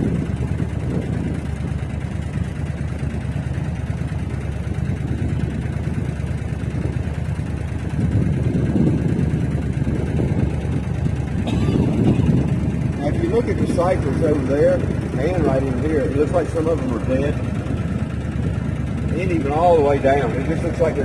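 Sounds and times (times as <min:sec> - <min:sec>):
motorboat engine running: 0:00.0 - 0:21.0
wind: 0:00.0 - 0:21.0.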